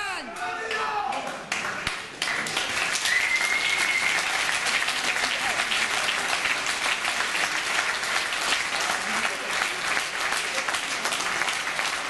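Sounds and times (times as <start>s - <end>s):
crowd applauding: 0.7s - 12.0s.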